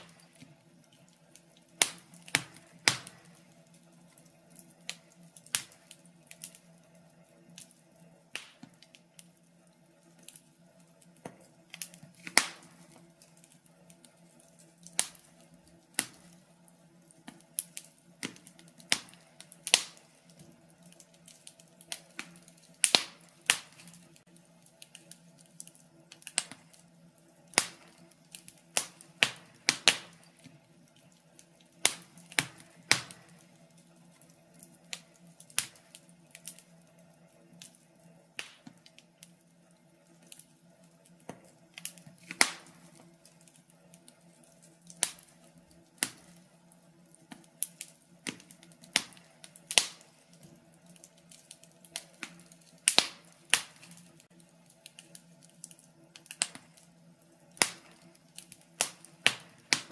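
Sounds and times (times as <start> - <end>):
faint steady low hum: 0.0 - 59.9
wood fire crackling: 0.0 - 59.9.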